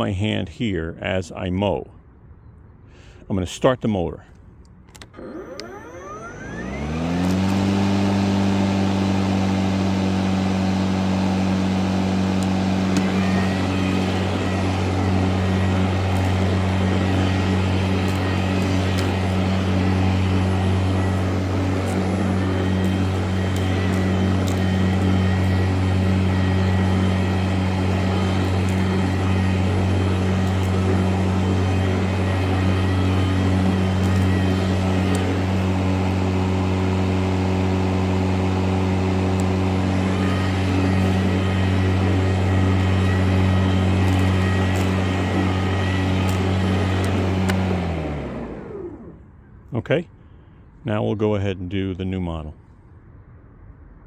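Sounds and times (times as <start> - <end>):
electric lawn mower humming: 4.9 - 49.6
high-pitched motor whine: 5.1 - 49.6.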